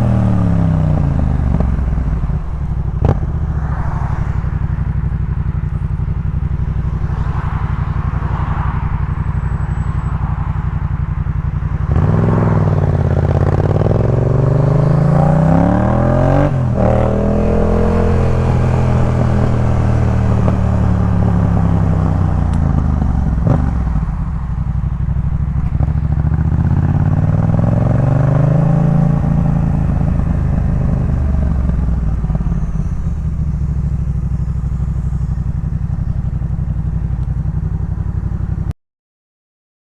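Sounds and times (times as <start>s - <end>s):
motorcycle engine revving: 0.0s - 38.7s.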